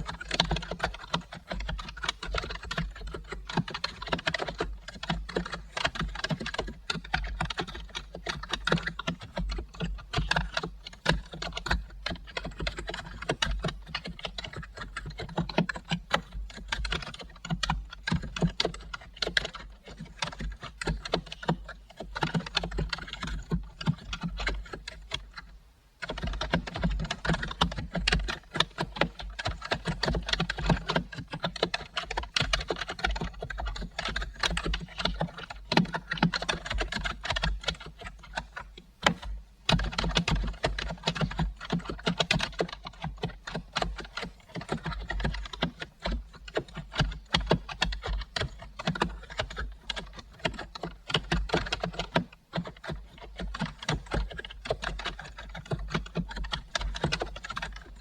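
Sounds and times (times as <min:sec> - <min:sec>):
typing on computer keyboard: 0:00.0 - 0:58.0.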